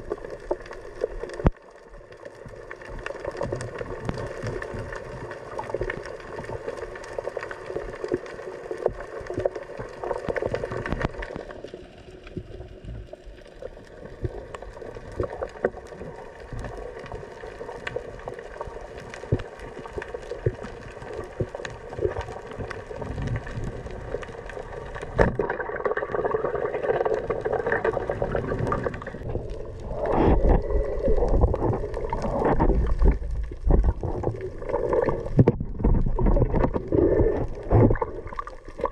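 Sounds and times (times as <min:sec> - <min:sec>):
underwater water wash and gurgling: 0:00.0 - 0:38.9
water rushing and sloshing: 0:00.0 - 0:38.9.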